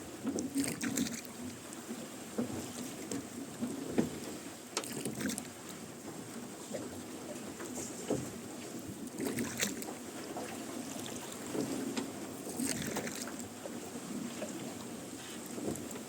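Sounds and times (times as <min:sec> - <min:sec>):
oars splashing in water: 0:00.0 - 0:16.0.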